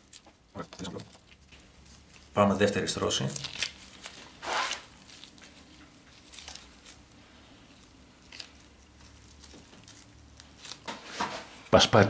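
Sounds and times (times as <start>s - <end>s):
fiberglass mat crackling and rustling: 0.0s - 11.7s.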